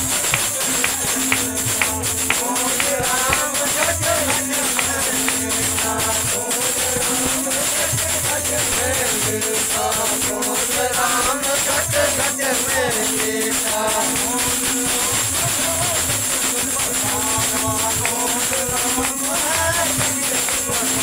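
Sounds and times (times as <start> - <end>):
harmonium drone and melody: 0.0 - 21.0
jingling percussion: 0.0 - 21.0
men singing devotional song: 0.0 - 21.0
rhythmic hand clapping: 0.0 - 21.0.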